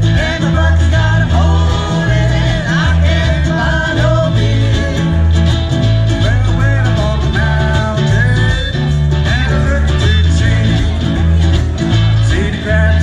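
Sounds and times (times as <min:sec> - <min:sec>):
bass line: 0:00.0 - 0:13.0
strummed ukuleles: 0:00.0 - 0:13.0.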